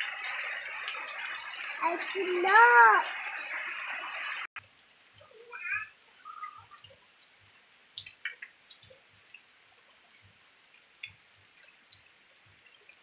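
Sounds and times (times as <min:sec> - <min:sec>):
rain falling: 0:00.0 - 0:13.0
water dripping: 0:00.0 - 0:13.0.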